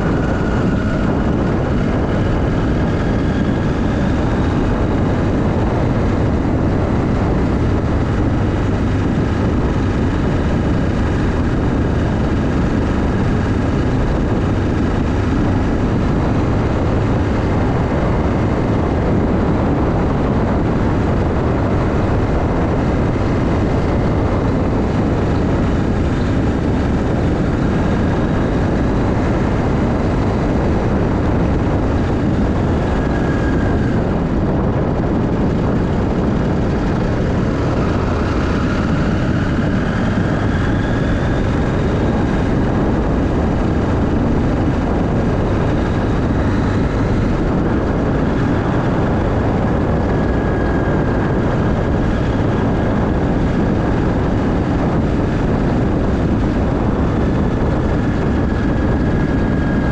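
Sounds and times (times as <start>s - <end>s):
motorcycle engine: 0.0s - 59.9s
wind noise: 0.0s - 59.9s.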